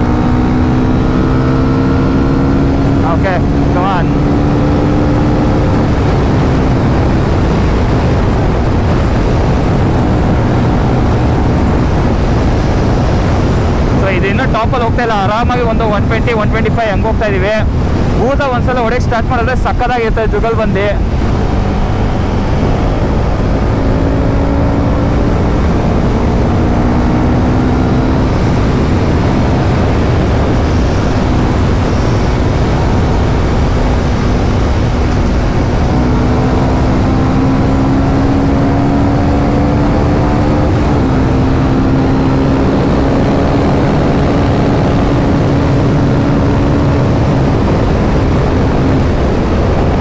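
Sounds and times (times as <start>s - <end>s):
motorcycle engine cruising: 0.0s - 50.0s
wind rush on microphone: 0.0s - 50.0s.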